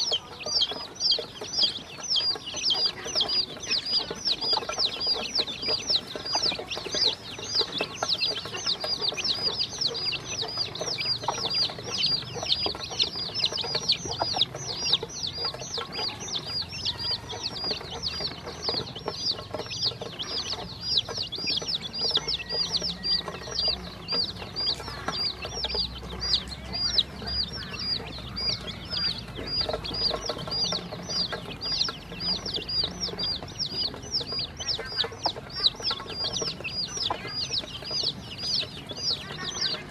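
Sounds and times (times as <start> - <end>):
chicks and ducklings peeping: 0.0 - 39.9.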